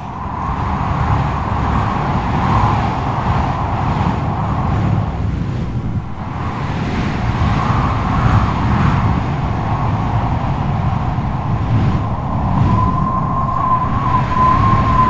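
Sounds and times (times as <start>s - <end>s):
strong wind blowing: 0.0s - 15.0s
whistling howl of wind: 0.0s - 15.0s.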